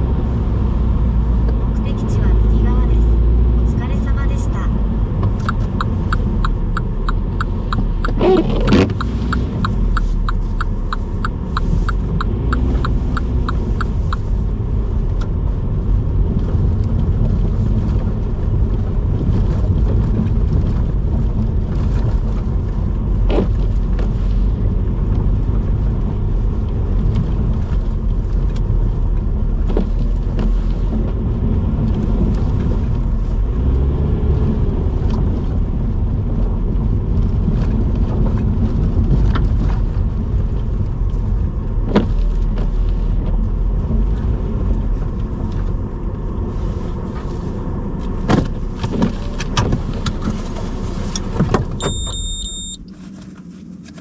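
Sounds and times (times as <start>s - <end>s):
car engine and tyres rumbling: 0.0s - 54.0s
turn signal ticking: 3.8s - 53.0s.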